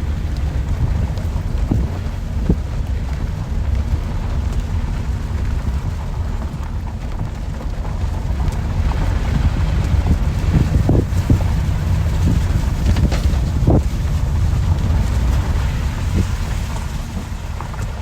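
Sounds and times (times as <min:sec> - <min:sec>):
deep low rumble: 0:00.0 - 0:18.0
steady rain: 0:00.0 - 0:18.0.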